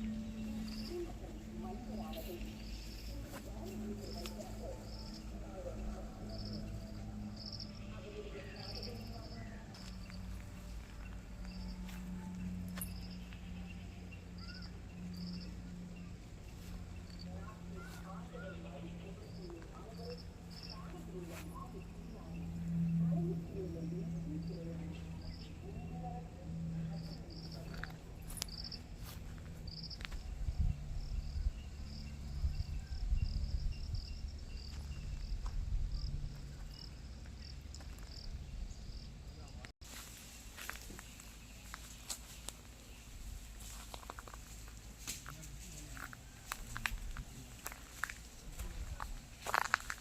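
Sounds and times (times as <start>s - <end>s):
crickets chirping: 0.0s - 17.9s, 18.8s - 41.8s, 46.0s - 50.0s
steady low hum: 0.0s - 50.0s.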